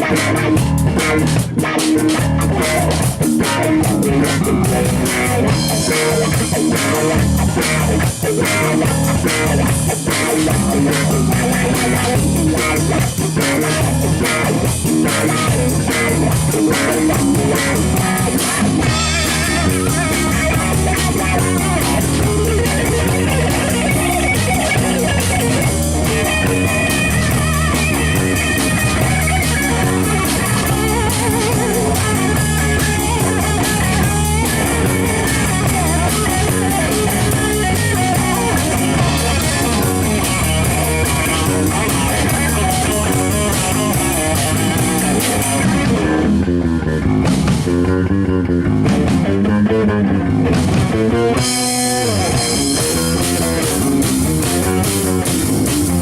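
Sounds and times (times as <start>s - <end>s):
drum kit: 0.0s - 48.1s, 48.7s - 49.7s, 50.3s - 56.0s
bass guitar: 0.0s - 56.0s
electric guitar: 0.0s - 56.0s.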